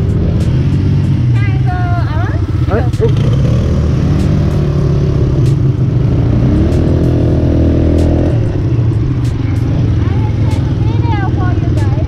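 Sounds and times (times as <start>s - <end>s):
quad engine revving: 0.0s - 12.0s.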